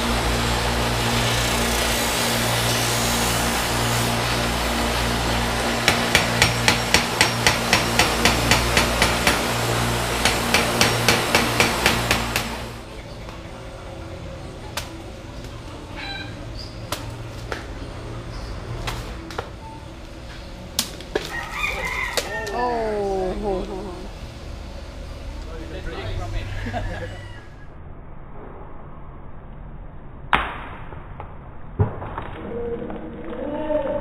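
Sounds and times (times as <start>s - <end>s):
workshop machine hum: 0.0s - 27.7s.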